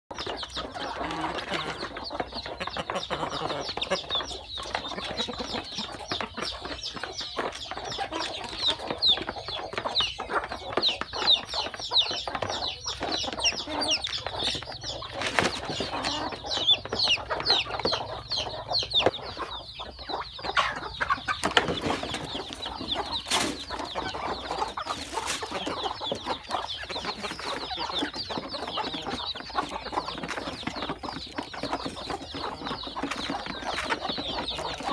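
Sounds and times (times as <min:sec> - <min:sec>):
chicks peeping: 0:00.1 - 0:34.9
hen clucking: 0:00.1 - 0:34.9.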